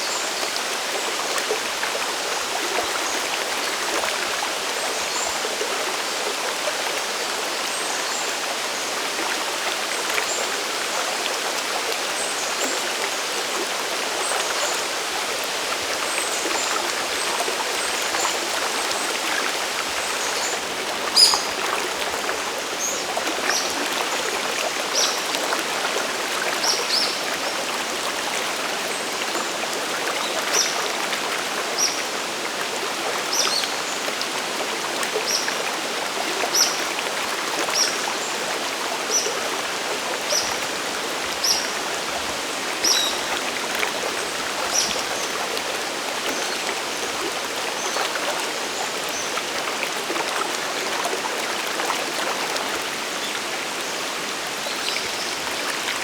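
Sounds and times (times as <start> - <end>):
rushing waterfall and river: 0.0 - 56.0.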